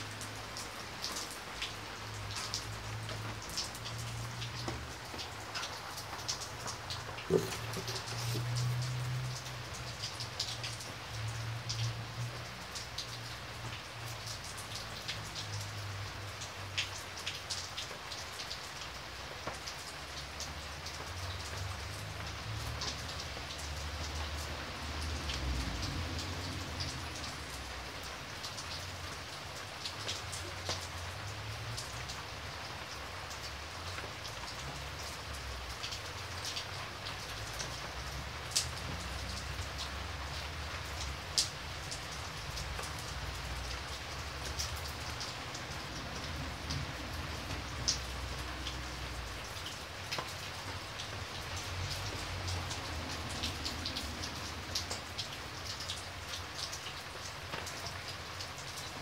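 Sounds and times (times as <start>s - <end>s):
heavy rain falling: 0.0s - 59.0s
raindrops tapping: 0.0s - 59.0s.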